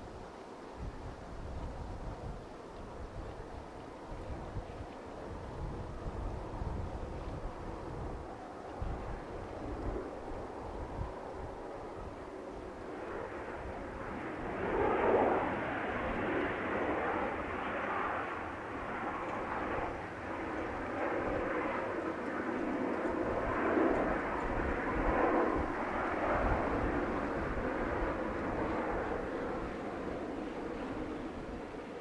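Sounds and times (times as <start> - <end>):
distant jet engines roaring: 0.0 - 32.0.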